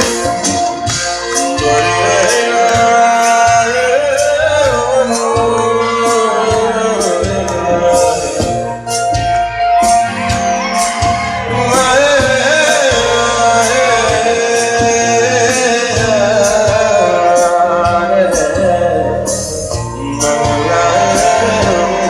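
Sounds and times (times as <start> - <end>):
man singing: 0.0 - 9.2, 11.4 - 22.0
live band music: 0.0 - 22.0.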